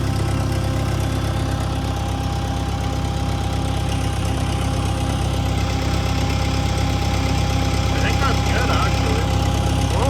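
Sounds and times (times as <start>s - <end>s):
loader engine idling: 0.0s - 10.0s.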